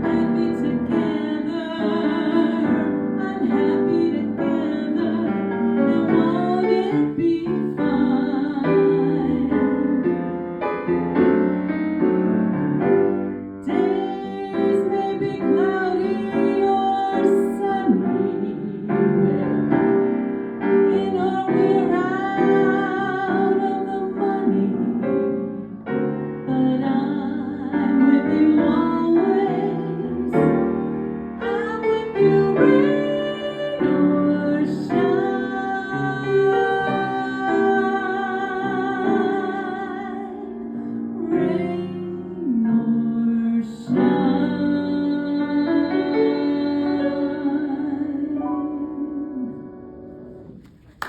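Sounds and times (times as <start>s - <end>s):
woman singing slow melody: 0.0s - 10.2s, 13.6s - 19.8s, 20.7s - 25.6s, 26.4s - 30.7s, 31.4s - 50.0s
piano accompaniment: 0.0s - 51.0s.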